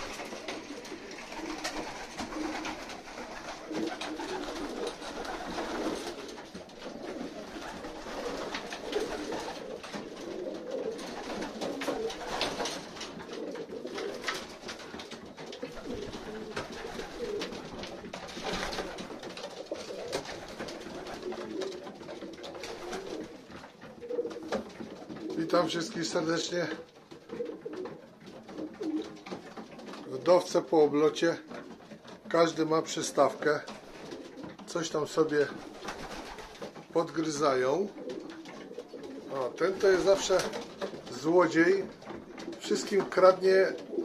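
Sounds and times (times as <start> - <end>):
pigeons cooing: 0.0 - 32.5, 33.2 - 44.0.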